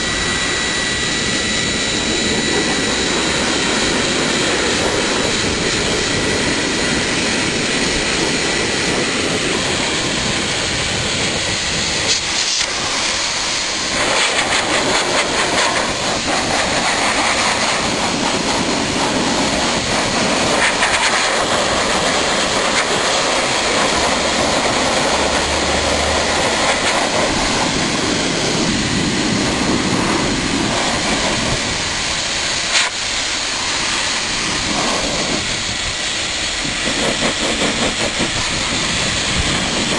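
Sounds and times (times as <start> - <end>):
pet dryer blowing air: 0.0 - 39.9.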